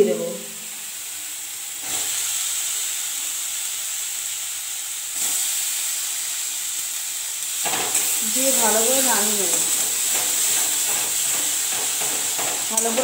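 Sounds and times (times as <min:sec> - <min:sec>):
tomato sizzling in hot oil: 0:00.0 - 0:13.0.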